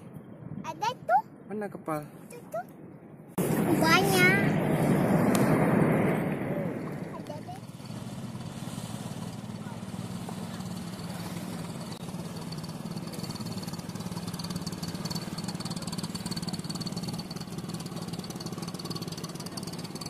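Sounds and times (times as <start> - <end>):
boat engine running: 3.4 - 20.0.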